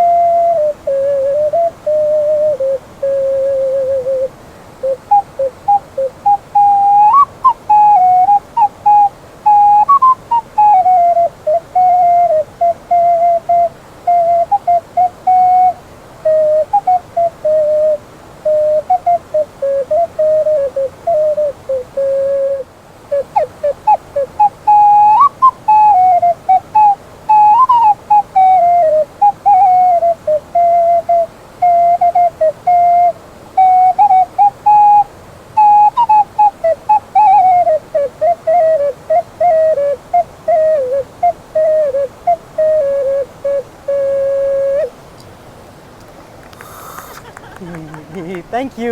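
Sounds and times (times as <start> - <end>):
ocarina playing slow melody: 0.0 - 44.9.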